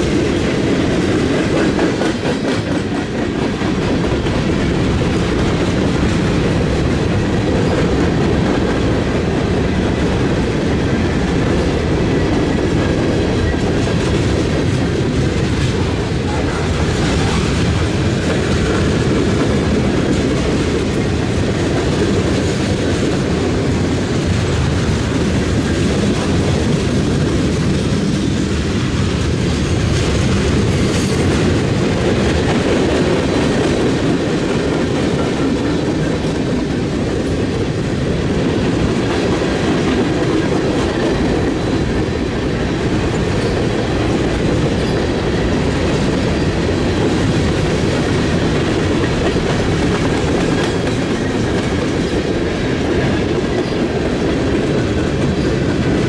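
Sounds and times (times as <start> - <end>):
train cars rolling by: 0.0 - 56.0.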